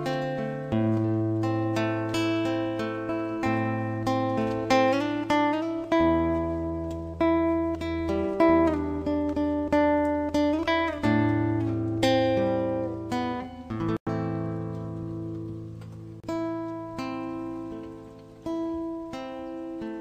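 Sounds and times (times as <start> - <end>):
guitar plucked and strummed: 0.0 - 20.0.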